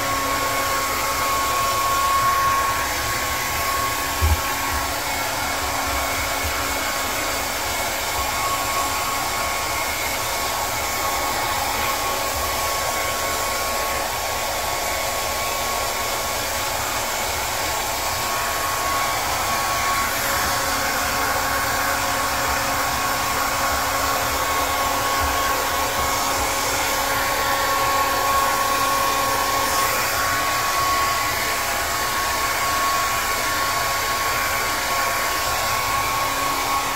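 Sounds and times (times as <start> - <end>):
hair dryer running: 0.0 - 36.9.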